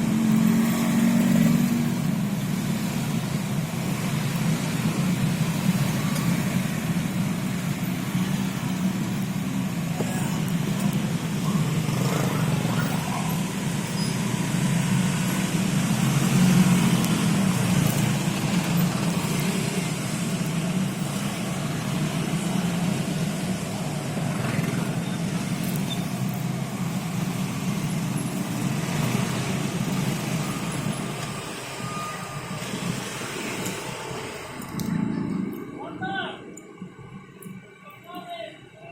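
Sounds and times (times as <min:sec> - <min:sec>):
vehicle engine droning: 0:00.0 - 0:37.8.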